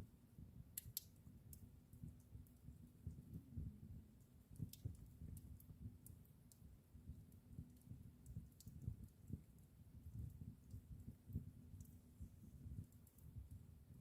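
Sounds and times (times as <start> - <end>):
wood fire crackling: 0.1 - 14.0.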